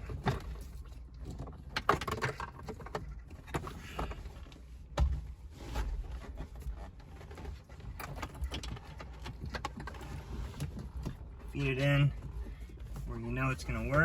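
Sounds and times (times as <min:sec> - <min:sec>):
clicks rustles and knocks behind dashboard: 0:00.0 - 0:14.0.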